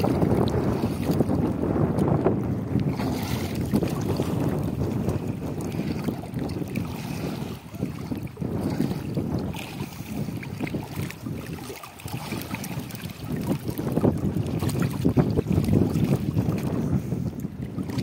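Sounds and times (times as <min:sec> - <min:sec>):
water splashing in river: 0:00.0 - 0:18.0
wind buffeting microphone: 0:00.0 - 0:18.0.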